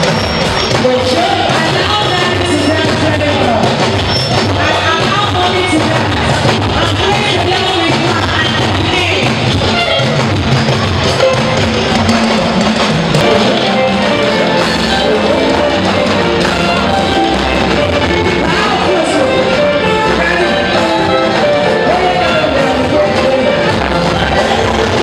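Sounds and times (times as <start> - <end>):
live band dance music with singing: 0.0 - 25.0.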